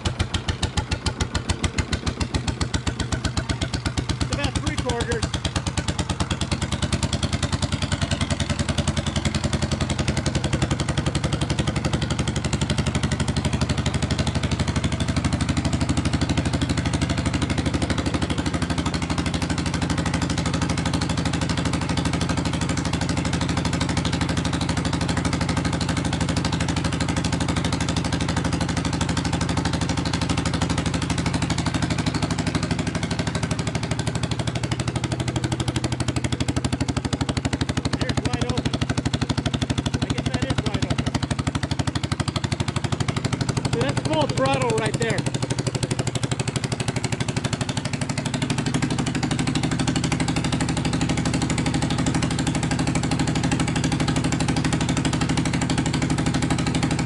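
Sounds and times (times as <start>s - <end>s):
two-stroke diesel engine running: 0.0s - 57.0s.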